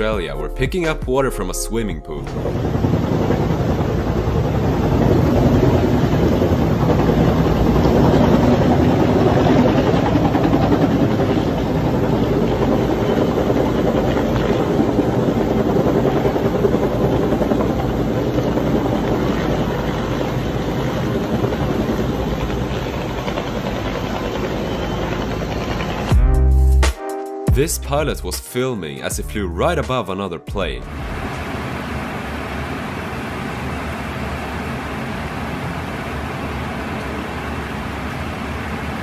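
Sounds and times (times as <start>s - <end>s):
helicopter rotor and engine: 2.2s - 26.2s, 30.9s - 39.0s.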